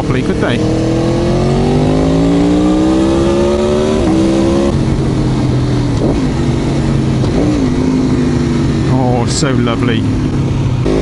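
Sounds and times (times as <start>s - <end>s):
motorcycle engine revving: 0.0s - 11.0s
road and wind noise: 0.0s - 11.0s.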